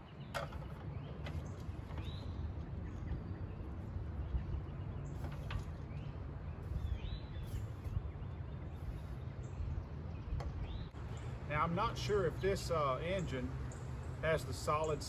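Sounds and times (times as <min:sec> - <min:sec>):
birds chirping: 0:00.0 - 0:15.0
steady low rumble: 0:01.6 - 0:14.8.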